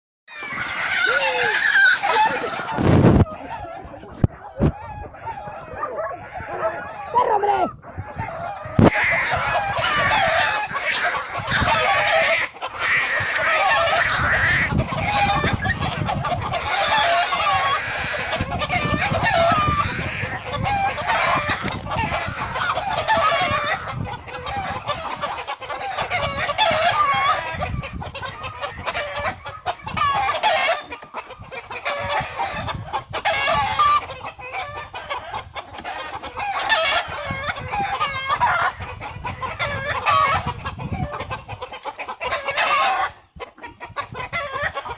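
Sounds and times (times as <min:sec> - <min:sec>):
chickens squawking and clucking: 0:00.3 - 0:44.9.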